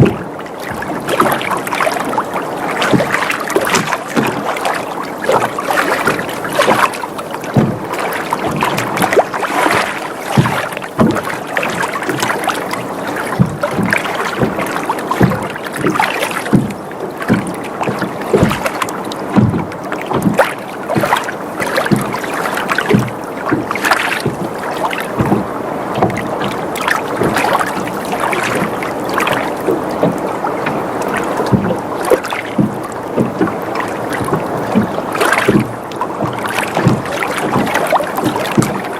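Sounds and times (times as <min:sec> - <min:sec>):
boat slaps and knocks: 0:00.0 - 0:38.9
water lapping against boat hull: 0:00.0 - 0:38.9.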